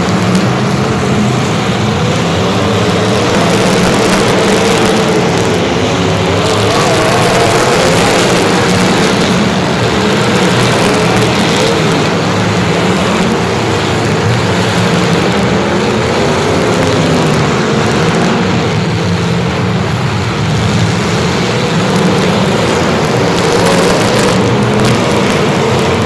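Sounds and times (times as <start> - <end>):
constant rushing noise: 0.0 - 26.0
vehicle engine running: 0.0 - 26.0.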